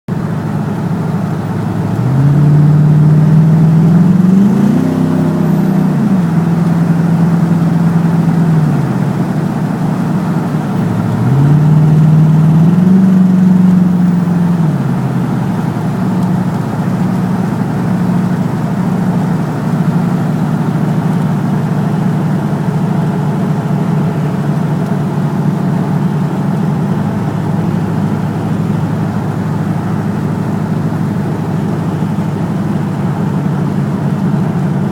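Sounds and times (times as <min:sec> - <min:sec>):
truck engine idling and revving: 0:00.1 - 0:34.9.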